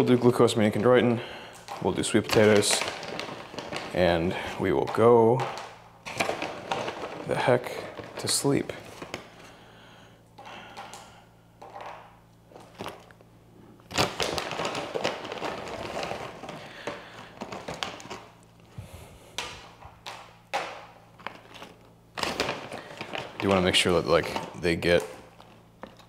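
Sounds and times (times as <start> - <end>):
plastic bag crinkling: 0.0 - 9.6, 10.6 - 26.0.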